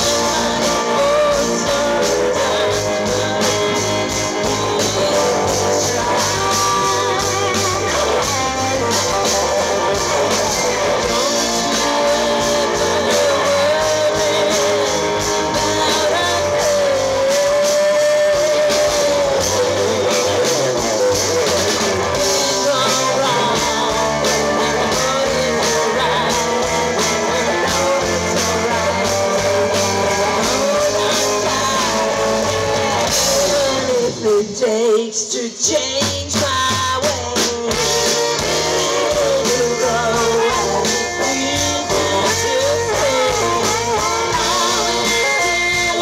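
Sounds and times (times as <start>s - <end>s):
bass guitar: 0.0s - 46.0s
drums: 0.0s - 46.0s
electric guitars: 0.0s - 46.0s
woman singing: 0.0s - 46.0s.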